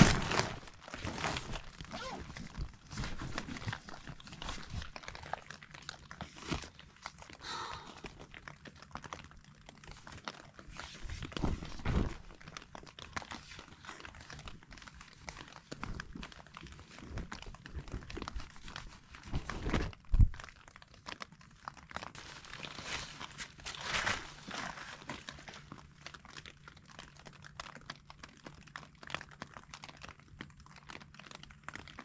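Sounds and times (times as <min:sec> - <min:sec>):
nylon tent floor crinkling: 0:00.0 - 0:32.0.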